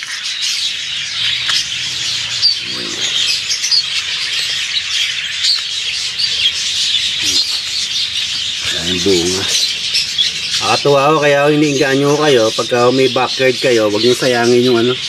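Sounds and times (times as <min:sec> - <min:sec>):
birds chirping and squawking: 0:00.0 - 0:15.0
low bird call: 0:00.0 - 0:15.0.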